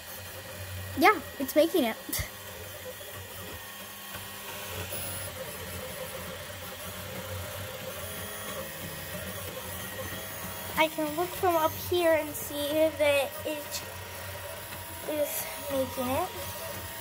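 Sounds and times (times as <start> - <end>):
printer motors whirring: 0.0 - 17.0.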